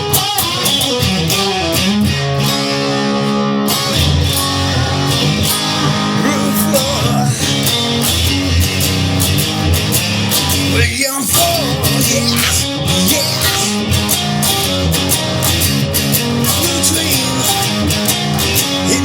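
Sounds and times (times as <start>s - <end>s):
rock guitar with steady beat: 0.0s - 19.0s.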